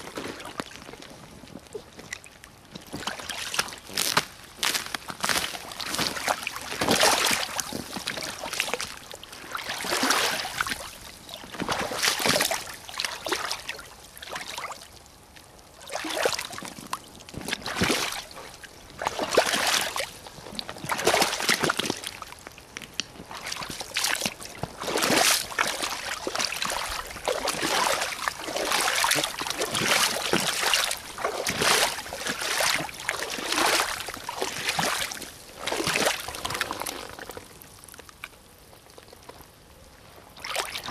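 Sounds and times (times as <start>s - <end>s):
boots wading through water: 0.0s - 39.4s, 40.2s - 40.9s.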